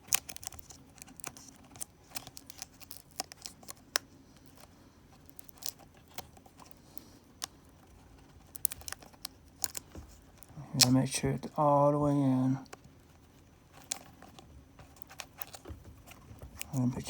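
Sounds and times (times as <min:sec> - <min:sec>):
fingers clicking laptop parts: 0:00.0 - 0:11.0, 0:13.8 - 0:17.0.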